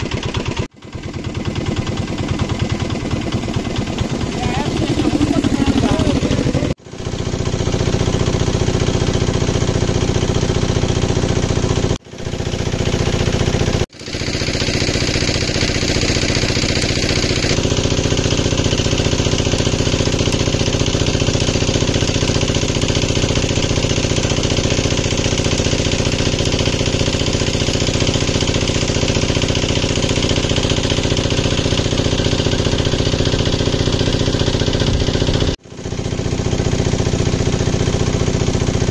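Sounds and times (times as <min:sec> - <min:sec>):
engine running with knocking beat: 0:00.0 - 0:38.9.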